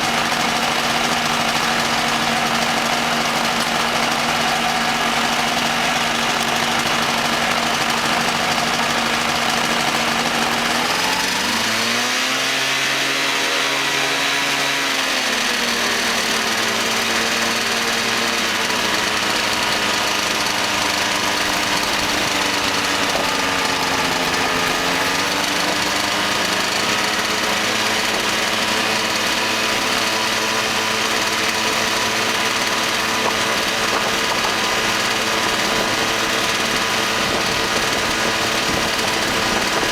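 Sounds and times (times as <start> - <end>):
ultralight aircraft engine running: 0.0 - 39.9.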